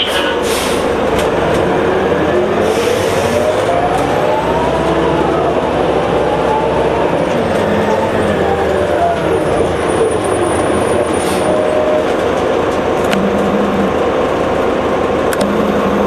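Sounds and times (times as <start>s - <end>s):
bus engine droning: 0.0s - 16.0s
transmission whine: 1.8s - 16.0s.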